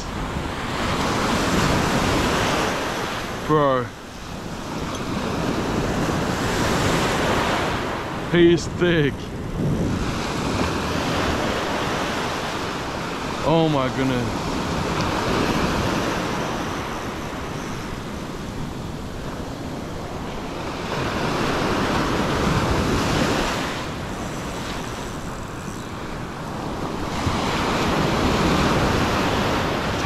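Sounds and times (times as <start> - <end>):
ocean surf breaking on sand: 0.0 - 30.0
wind blowing on microphone: 0.0 - 30.0.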